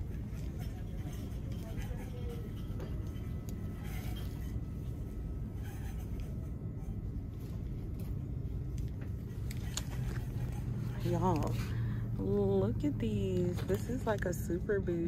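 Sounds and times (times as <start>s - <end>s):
store background rumble: 0.0s - 15.0s.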